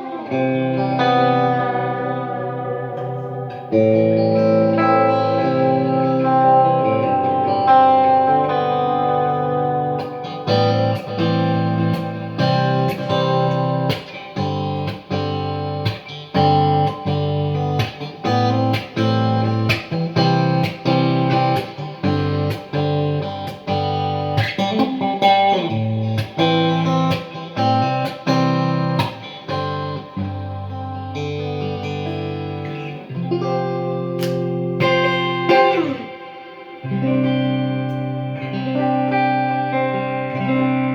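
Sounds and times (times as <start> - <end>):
electric guitar strummed: 0.0 - 40.9.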